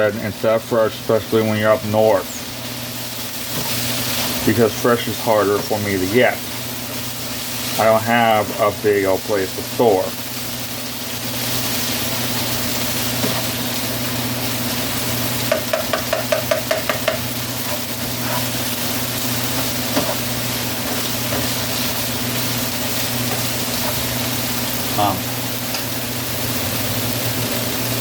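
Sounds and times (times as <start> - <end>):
vegetables sizzling in a frying pan: 0.0 - 28.0
utensil stirring against pan: 2.3 - 26.6.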